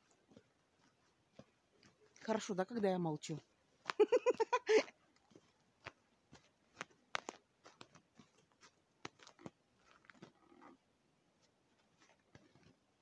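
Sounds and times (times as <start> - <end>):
footsteps crunching in snow: 0.0 - 4.4, 5.1 - 10.5, 11.4 - 12.8.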